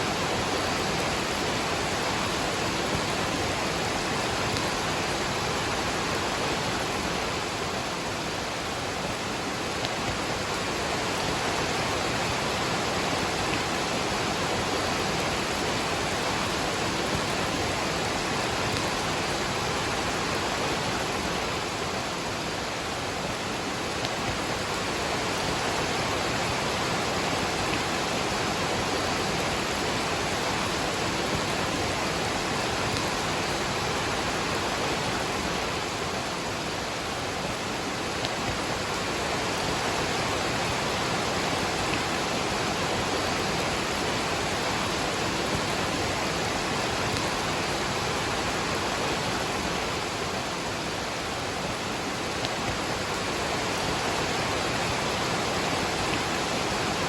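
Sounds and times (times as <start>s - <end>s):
rain: 0.0s - 57.0s
waterfall rushing: 0.0s - 57.0s.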